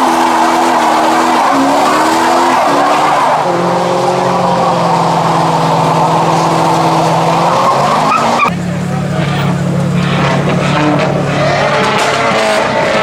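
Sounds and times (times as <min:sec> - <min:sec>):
car engine revving high: 0:00.0 - 0:13.0
tyres screeching: 0:00.0 - 0:13.0.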